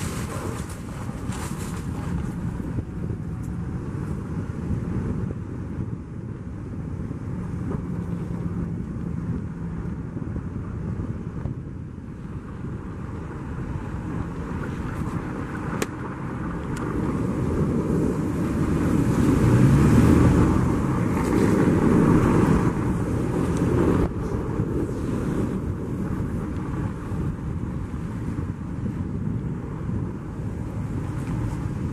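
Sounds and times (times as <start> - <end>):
tyres rumbling on snow: 0.0 - 31.9
vehicle engine hum: 0.0 - 31.9.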